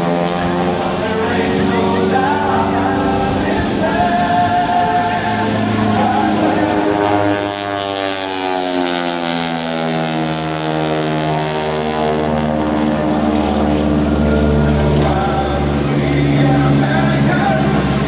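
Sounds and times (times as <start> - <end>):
propeller airplane flying past: 0.0 - 18.0.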